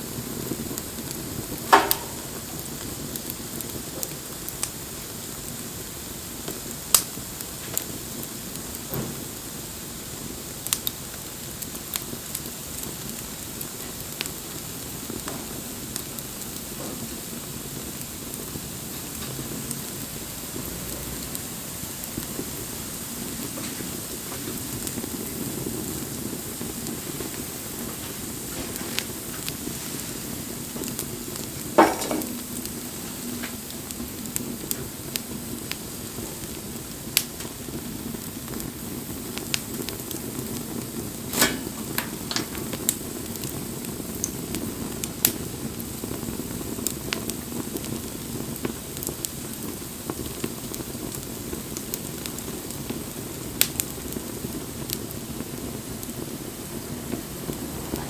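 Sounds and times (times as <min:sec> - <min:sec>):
bonfire flame rushing: 0:00.0 - 0:58.0
fire crackling and popping: 0:00.0 - 0:58.0.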